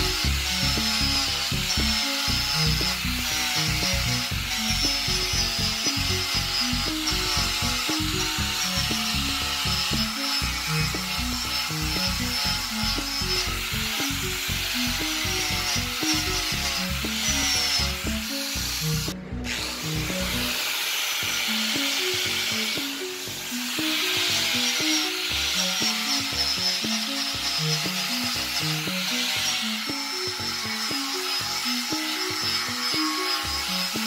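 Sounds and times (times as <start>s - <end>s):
angle grinder polishing metal: 0.0s - 34.0s
background music: 0.0s - 34.0s.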